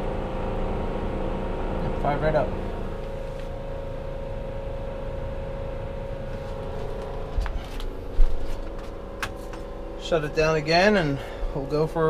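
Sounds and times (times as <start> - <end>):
furnace blower hum: 0.0 - 12.0.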